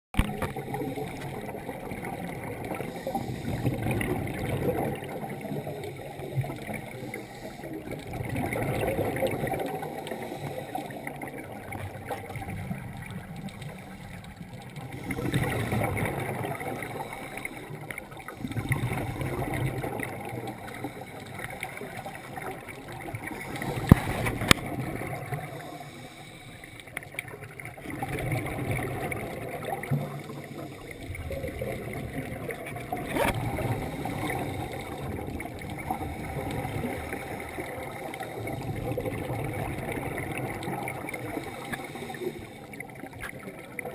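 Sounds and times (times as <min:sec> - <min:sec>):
underwater regulator bubbles: 0:00.2 - 0:43.9.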